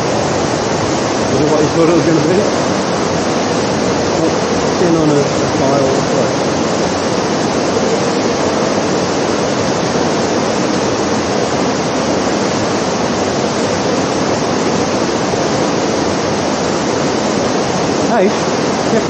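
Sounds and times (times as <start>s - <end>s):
artificial rain falling on floor: 0.0s - 19.0s.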